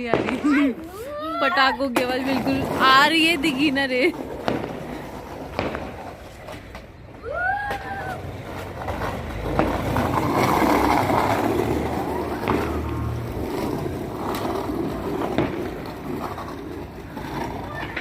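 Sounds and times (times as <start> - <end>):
firecrackers crackling and rushing: 0.0 - 18.0
firecrackers popping: 0.0 - 18.0.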